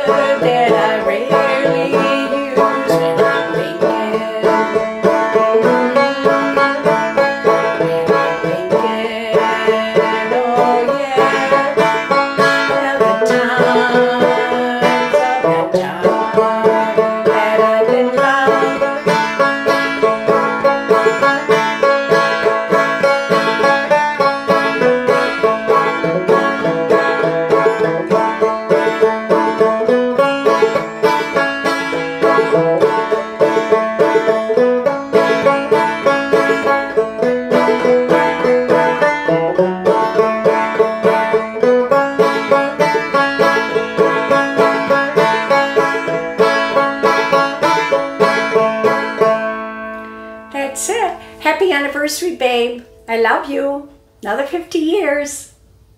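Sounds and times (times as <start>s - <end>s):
banjo strumming and plucking: 0.0s - 53.5s.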